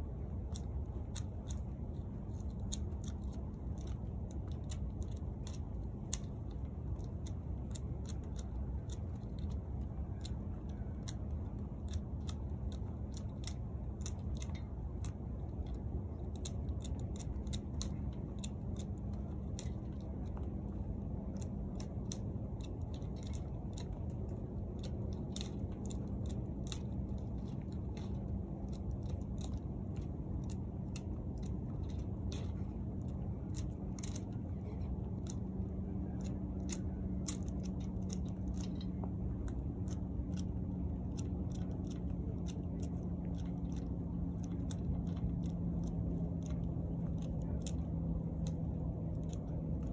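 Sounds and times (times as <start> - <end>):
steady low hum: 0.0 - 49.9
pruning shears snipping: 0.4 - 49.9.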